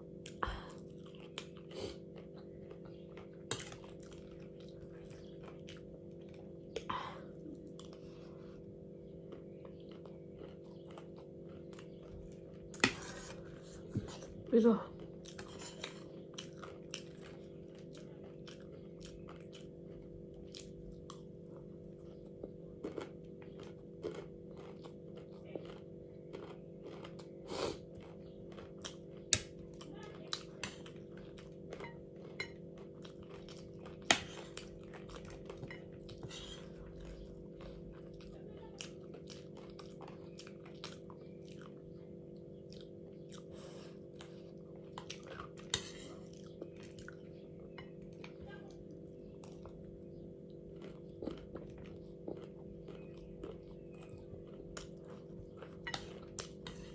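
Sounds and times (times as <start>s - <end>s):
chewing crunchy food: 0.0s - 56.9s
steady low hum: 0.0s - 56.9s.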